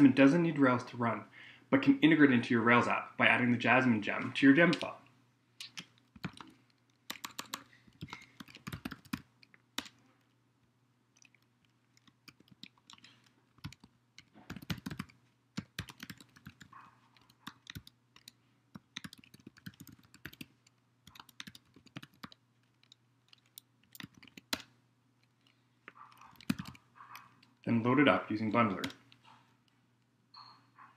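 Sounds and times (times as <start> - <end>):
faint keyboard typing: 4.1 - 30.9.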